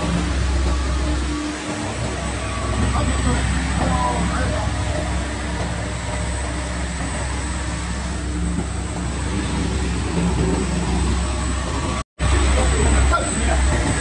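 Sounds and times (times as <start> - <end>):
sanding machine humming and rushing: 0.0 - 14.0.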